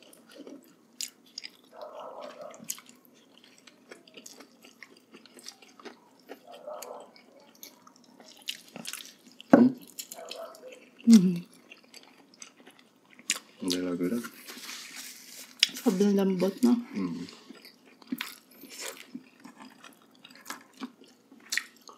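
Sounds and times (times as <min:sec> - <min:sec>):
chewing and lip smacking: 0:00.0 - 0:13.8, 0:17.4 - 0:21.9.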